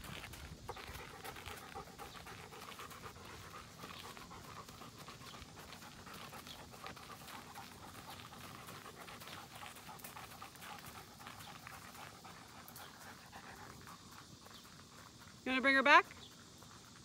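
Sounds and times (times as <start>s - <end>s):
dog panting: 0.0s - 15.4s.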